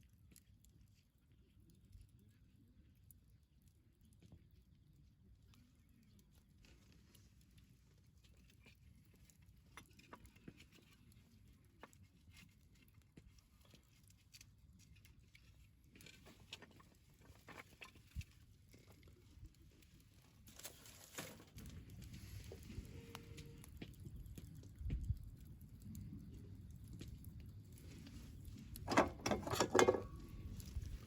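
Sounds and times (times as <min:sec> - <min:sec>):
campfire crackling: 0:00.1 - 0:31.0.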